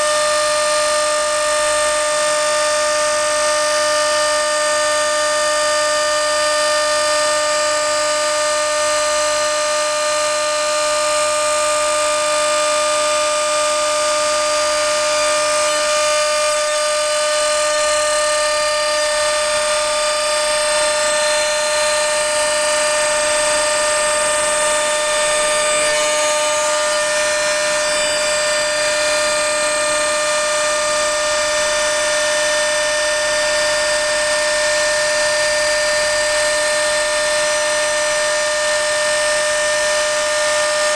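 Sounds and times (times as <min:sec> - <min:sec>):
cnc router spindle whine: 0:00.0 - 0:40.9.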